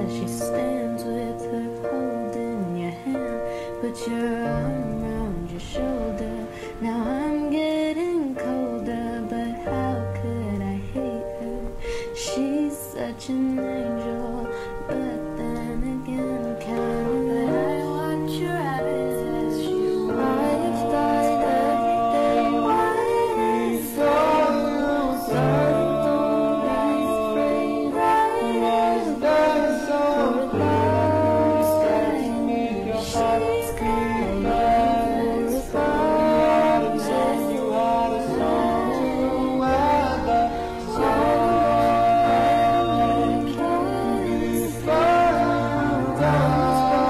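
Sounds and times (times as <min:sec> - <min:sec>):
slow song with harmony vocals: 0:00.0 - 0:47.0.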